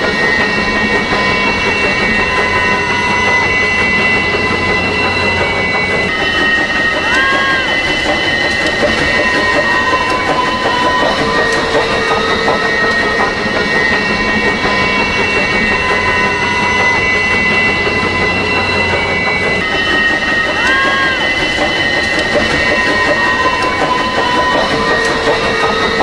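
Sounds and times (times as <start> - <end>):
train rumbling on rails: 0.0 - 26.0
wheels squealing ring: 0.0 - 26.0.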